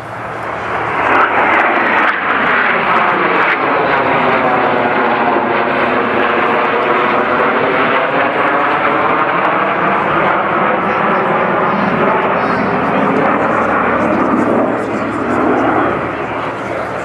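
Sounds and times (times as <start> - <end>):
jet fighters passing overhead: 0.0 - 17.0.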